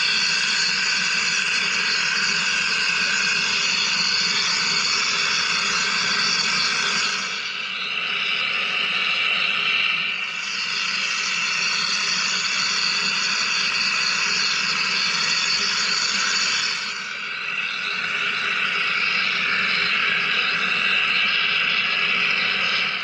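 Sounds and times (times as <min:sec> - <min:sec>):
machine cutting hiss: 0:00.0 - 0:07.9, 0:09.5 - 0:23.0.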